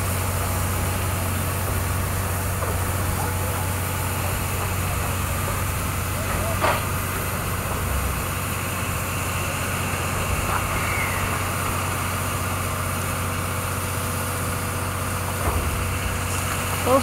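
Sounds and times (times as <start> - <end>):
railway turntable humming: 0.0 - 17.0.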